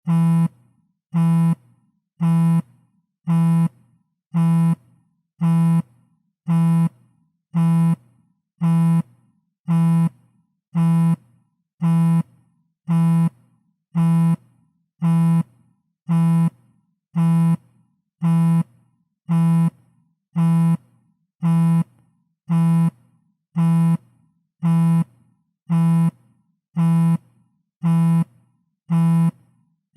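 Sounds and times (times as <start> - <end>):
phone vibrating on table: 0.0 - 29.8.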